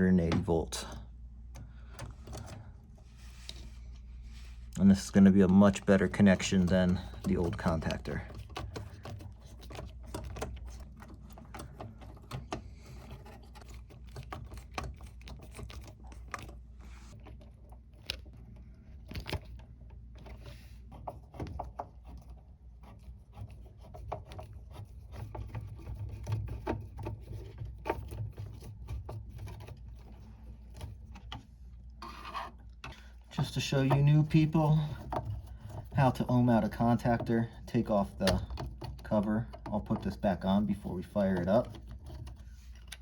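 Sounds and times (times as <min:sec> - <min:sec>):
small clicks and scrapes: 0:00.0 - 0:43.0
steady low hum: 0:00.0 - 0:43.0.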